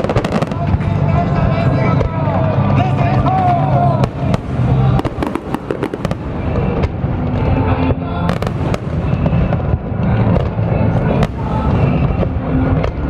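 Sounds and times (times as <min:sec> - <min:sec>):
continuous low rumble: 0:00.0 - 0:13.0
fireworks bangs and crackles: 0:00.0 - 0:13.0.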